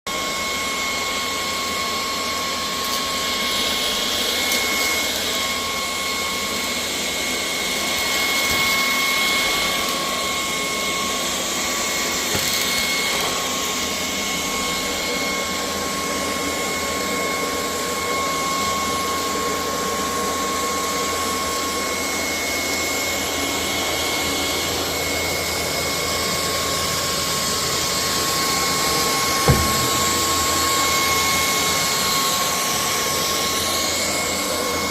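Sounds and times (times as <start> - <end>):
stick vacuum cleaner running: 0.1 - 34.9.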